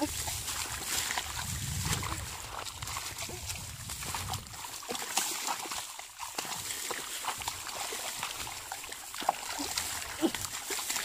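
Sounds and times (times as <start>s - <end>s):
hands splashing in muddy water: 0.0s - 11.0s.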